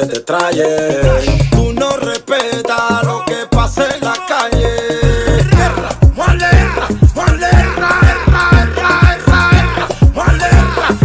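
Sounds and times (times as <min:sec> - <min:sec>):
music with deep bass: 0:00.0 - 0:11.0.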